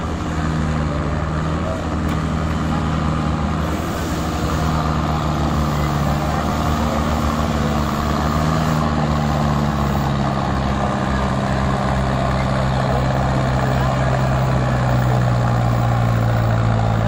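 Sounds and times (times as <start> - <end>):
other tractor engines: 0.0 - 17.0
tractor diesel engine under load: 0.0 - 17.0.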